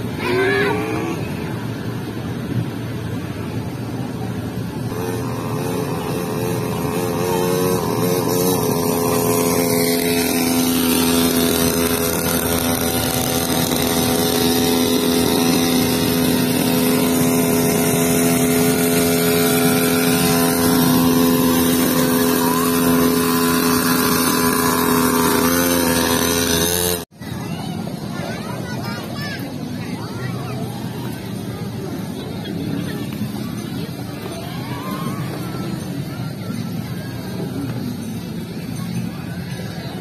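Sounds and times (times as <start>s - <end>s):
small dirt bike engine running: 0.0s - 40.0s.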